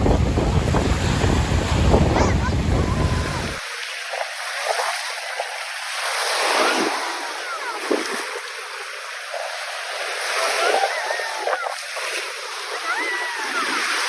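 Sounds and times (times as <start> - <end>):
sea waves washing onto shore: 0.0 - 14.0.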